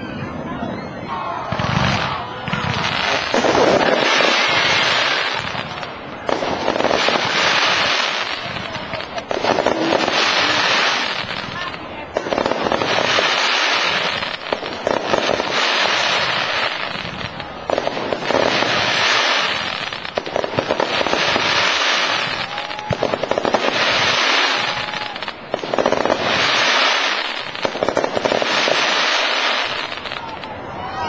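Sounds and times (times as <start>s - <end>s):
fireworks bursting with crackling pops: 1.2s - 30.6s.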